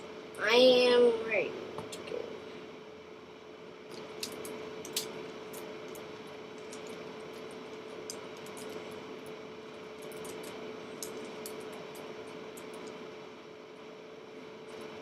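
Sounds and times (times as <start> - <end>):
steady hiss and hum: 0.0 - 15.0.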